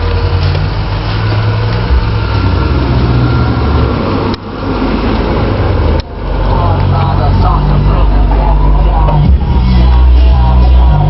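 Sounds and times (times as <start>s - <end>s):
bass-heavy music from car: 0.0s - 11.0s.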